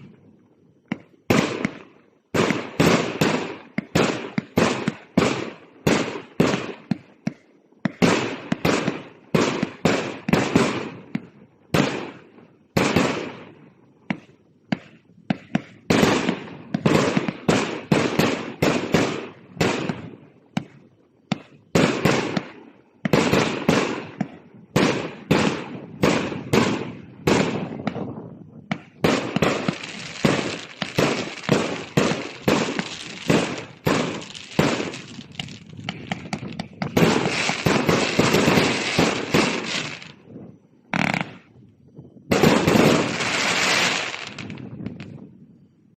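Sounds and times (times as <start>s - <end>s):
fireworks cake firing shots: 0.8s - 41.5s, 42.3s - 45.2s.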